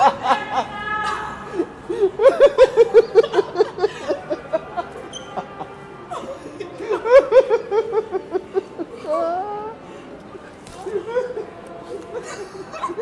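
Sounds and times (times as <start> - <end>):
woman laughing hard: 0.0 - 9.8, 10.8 - 13.0.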